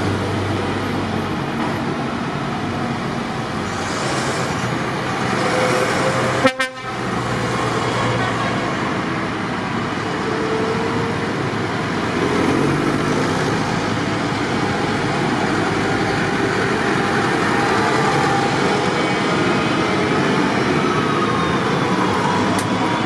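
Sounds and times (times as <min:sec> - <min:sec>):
tractor engines running: 0:00.0 - 0:23.0.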